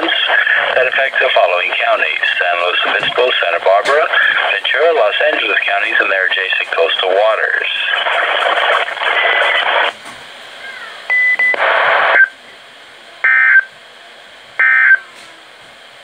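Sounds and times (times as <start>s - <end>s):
faint radio hiss: 0.0s - 15.4s.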